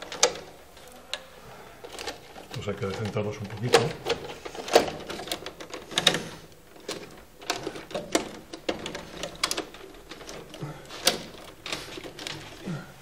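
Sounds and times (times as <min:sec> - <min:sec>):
wires rustling and clicking: 0:00.0 - 0:13.0.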